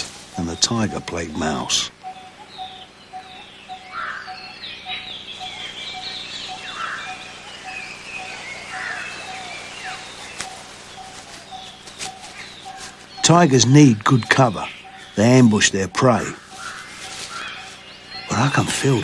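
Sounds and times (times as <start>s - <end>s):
birds chirping and whistling: 0.0s - 19.0s.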